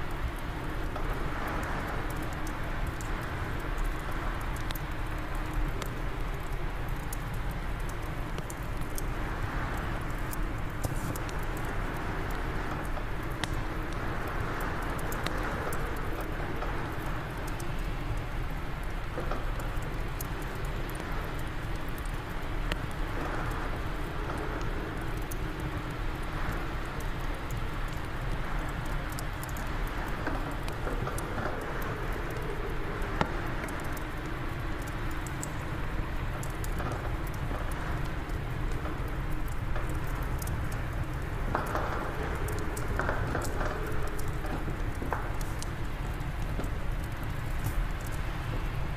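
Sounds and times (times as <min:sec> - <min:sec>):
fireplace fire crackling: 0:00.0 - 0:48.9.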